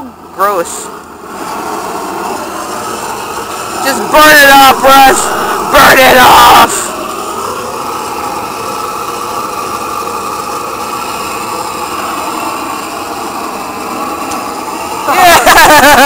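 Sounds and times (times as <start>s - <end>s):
propane torch rushing: 0.0s - 16.0s.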